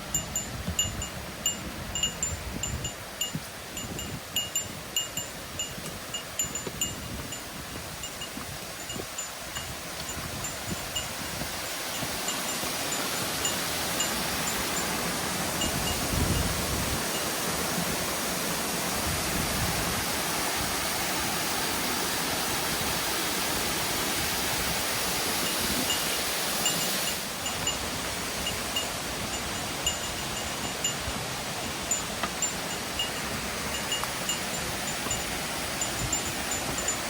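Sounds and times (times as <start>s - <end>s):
stream and waterfall rushing: 0.0s - 37.0s.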